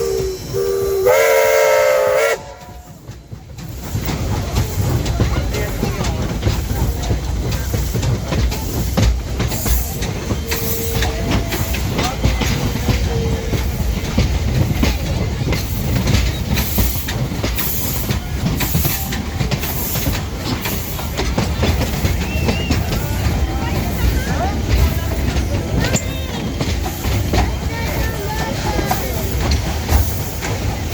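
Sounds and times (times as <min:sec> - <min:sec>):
train wheels clattering on rails: 0:00.0 - 0:30.9.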